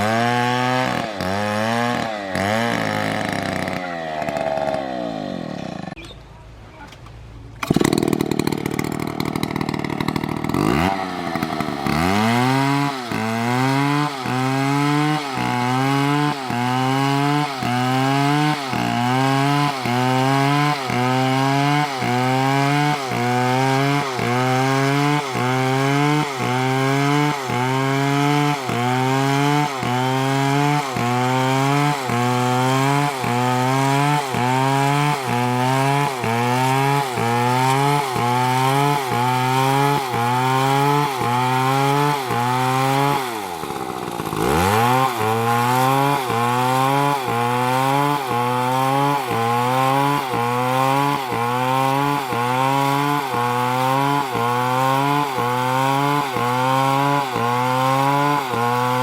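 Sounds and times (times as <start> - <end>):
chainsaw cutting wood: 0.0 - 6.1, 6.8 - 59.0.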